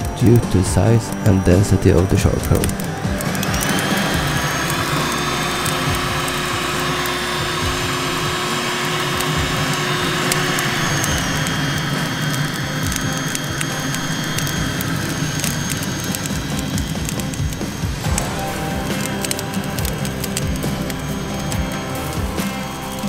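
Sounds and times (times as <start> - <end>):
charcoal crackling and popping: 0.0 - 23.0
electric blower rushing and whining: 0.0 - 23.0.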